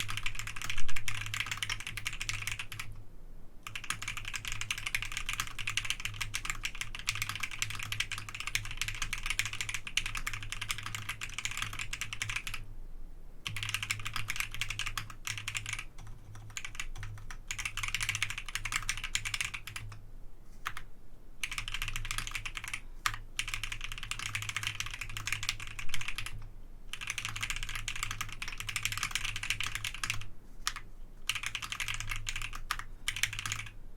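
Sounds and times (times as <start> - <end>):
mechanical keyboard typing: 0.0 - 3.0, 3.6 - 12.6, 13.4 - 20.0, 21.4 - 33.8.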